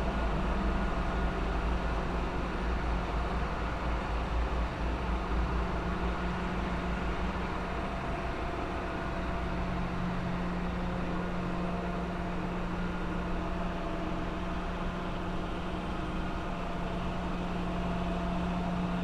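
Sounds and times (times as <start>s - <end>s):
engine room machinery drone: 0.0s - 19.0s.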